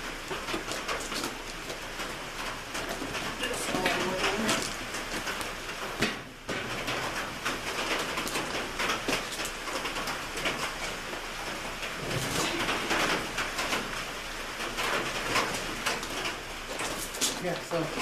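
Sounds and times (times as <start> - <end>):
rain on a metal roof: 0.0 - 18.0.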